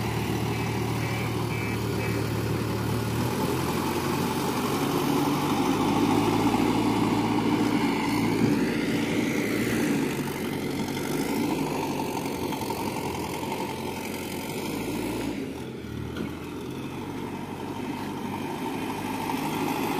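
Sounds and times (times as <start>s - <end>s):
truck diesel engine running: 0.0s - 19.9s.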